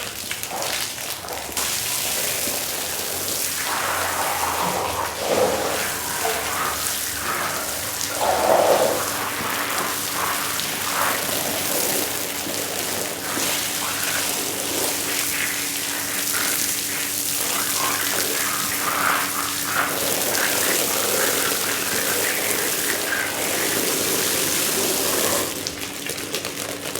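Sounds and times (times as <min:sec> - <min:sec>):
water spraying on a rug: 0:00.0 - 0:26.9.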